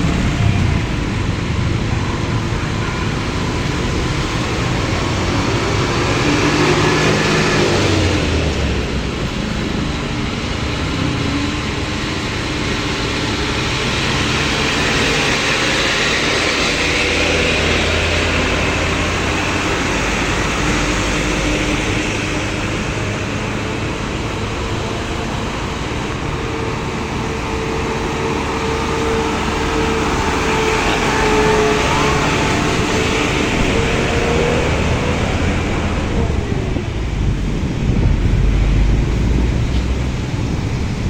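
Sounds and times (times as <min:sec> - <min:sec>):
road noise: 0:00.0 - 0:41.0
vehicle engines droning: 0:00.0 - 0:41.0.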